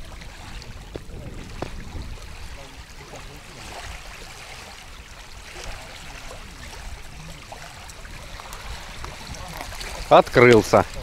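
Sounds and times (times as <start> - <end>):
waves lapping on pebbly shore: 0.0 - 11.0
wind rumbling on microphone: 0.0 - 11.0.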